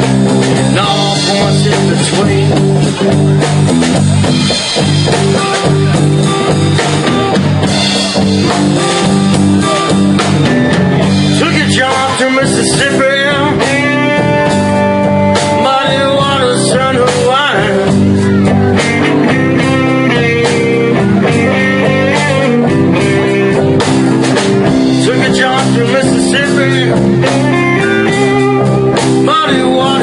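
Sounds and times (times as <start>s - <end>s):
blues-rock band playing: 0.0s - 30.0s
electric guitar lead: 0.0s - 30.0s.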